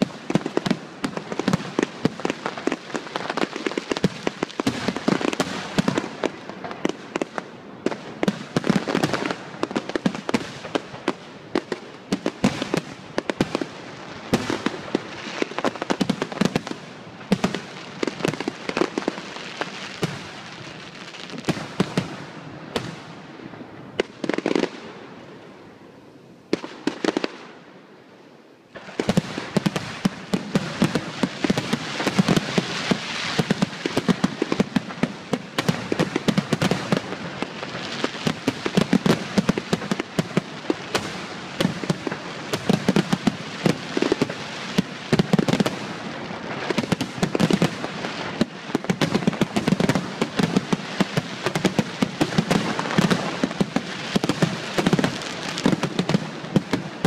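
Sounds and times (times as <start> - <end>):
fireworks bangs and crackling: 0.0 - 25.8, 26.5 - 27.7, 28.7 - 57.0.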